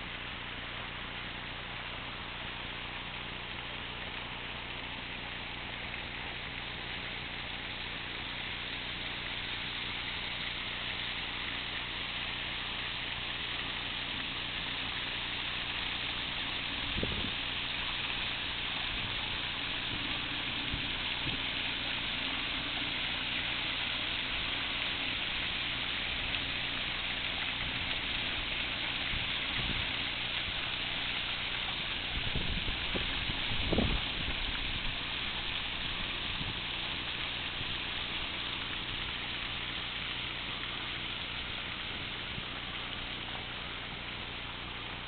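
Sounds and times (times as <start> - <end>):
waterfall splashing into pool: 0.0 - 45.0.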